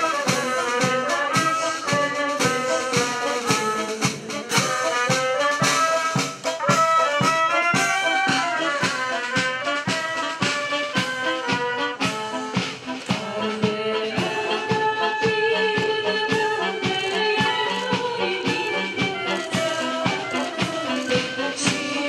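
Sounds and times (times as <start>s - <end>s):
brass band playing: 0.0s - 22.0s
steady drum beat: 0.0s - 22.0s.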